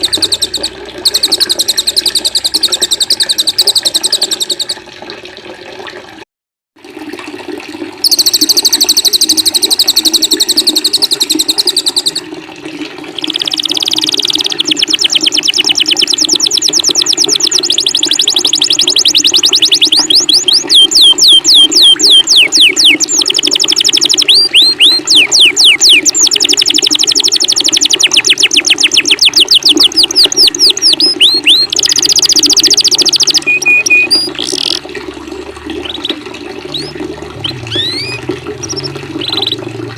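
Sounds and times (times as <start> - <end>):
songbirds trilling: 0.0 - 4.8, 8.0 - 12.2, 13.2 - 27.1, 27.9 - 34.8, 35.8 - 39.6
running water: 0.0 - 6.2, 6.8 - 39.9.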